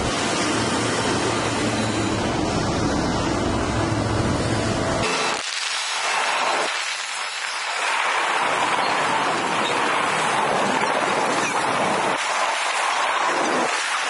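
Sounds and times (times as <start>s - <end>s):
freight cars rumbling on rails: 0.0s - 14.0s.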